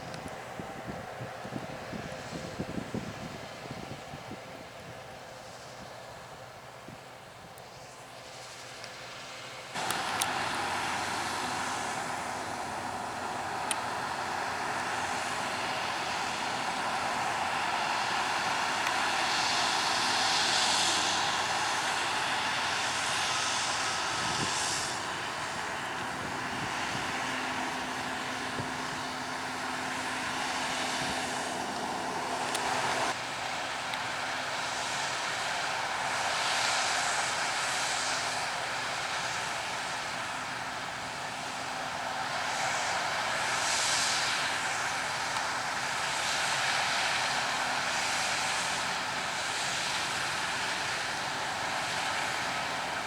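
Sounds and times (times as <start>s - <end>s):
combine harvester engine droning: 0.0s - 53.0s.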